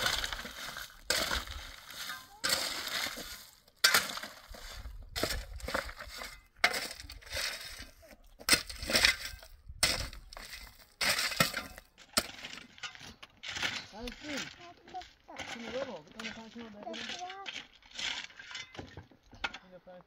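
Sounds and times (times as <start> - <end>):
shovel scooping crushed stone: 0.0 - 19.8.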